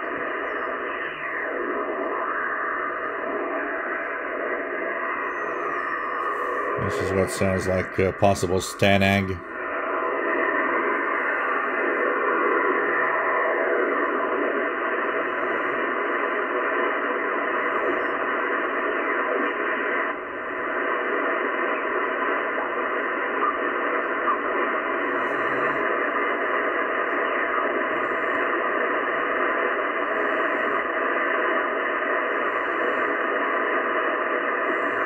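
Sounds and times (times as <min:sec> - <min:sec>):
faint steady tones: 0:00.0 - 0:35.0
radio static rush: 0:00.0 - 0:35.0.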